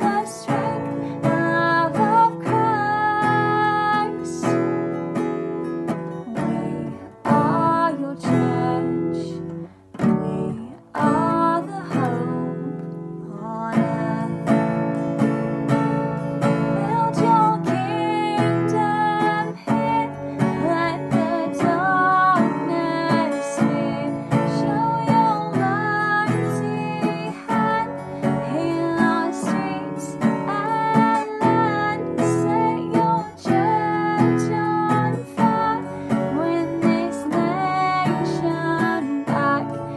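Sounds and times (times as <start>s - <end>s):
person singing: 0.0s - 4.7s, 6.2s - 14.6s, 16.6s - 39.9s
acoustic guitar strumming: 0.0s - 39.9s.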